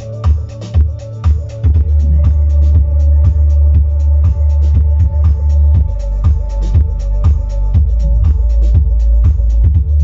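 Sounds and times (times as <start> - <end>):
bass-heavy electronic music: 0.0 - 10.0
deep kick drum: 0.0 - 10.0.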